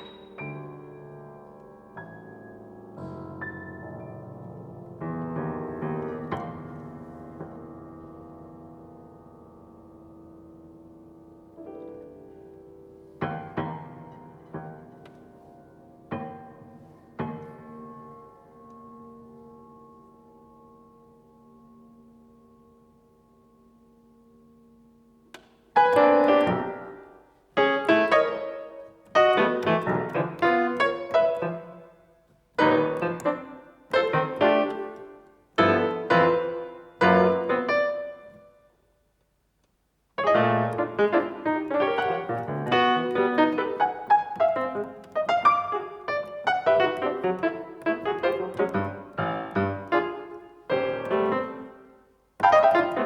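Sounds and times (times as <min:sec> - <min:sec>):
solo piano: 0:00.0 - 0:53.0.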